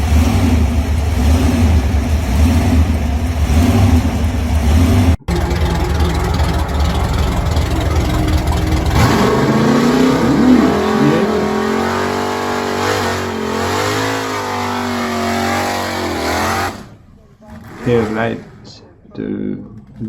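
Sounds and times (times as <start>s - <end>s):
car engine rumbling and revving: 0.0s - 18.8s.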